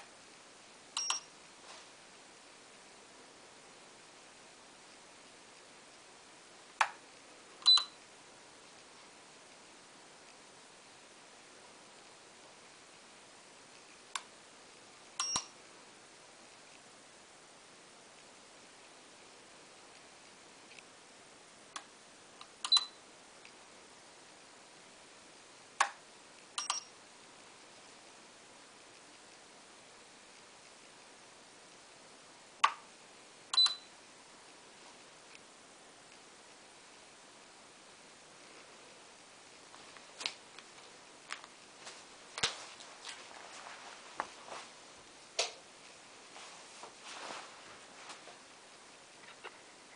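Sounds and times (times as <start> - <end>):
faint steady hiss: 0.0 - 49.9.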